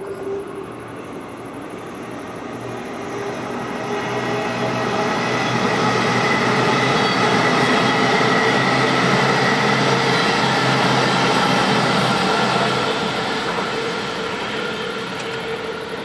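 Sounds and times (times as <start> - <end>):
multi-tone train whine: 0.0 - 16.0
train wheels rumbling on rail: 0.0 - 16.0.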